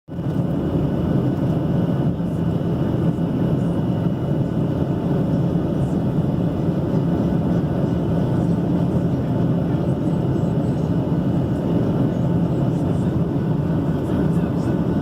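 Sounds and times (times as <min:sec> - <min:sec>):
airliner cabin rumble: 0:00.1 - 0:15.0.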